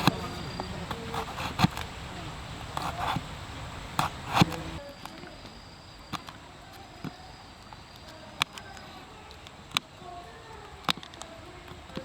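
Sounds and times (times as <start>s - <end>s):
quiet outdoor background: 0.0s - 12.0s
sharp short clicks: 0.0s - 12.0s.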